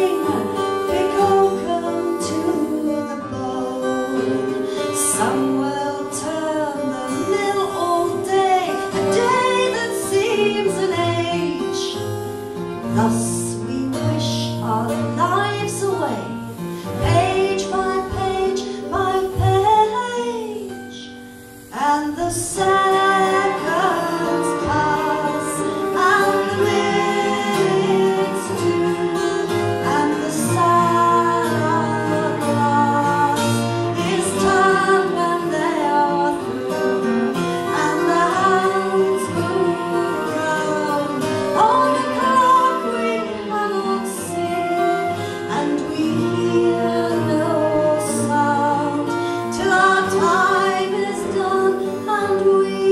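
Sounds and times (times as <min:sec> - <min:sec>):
guitar accompaniment: 0:00.0 - 0:52.9
woman singing: 0:00.0 - 0:52.9.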